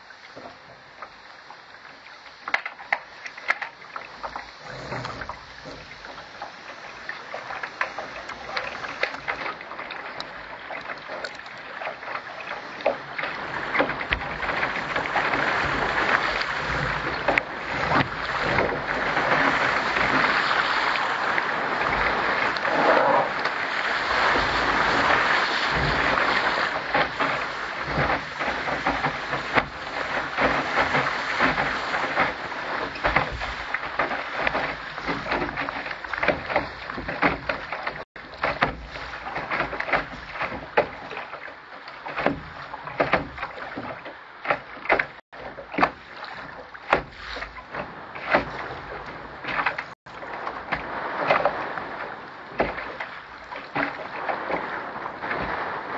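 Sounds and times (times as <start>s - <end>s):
water splashing against boat hull: 0.0s - 55.9s.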